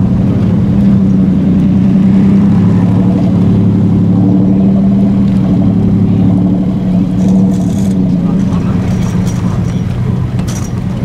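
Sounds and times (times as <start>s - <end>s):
car engine droning at low revs: 0.0s - 11.0s.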